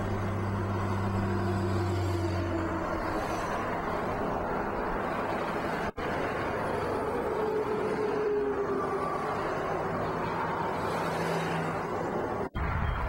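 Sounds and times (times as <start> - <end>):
traffic rushing: 0.0 - 13.0.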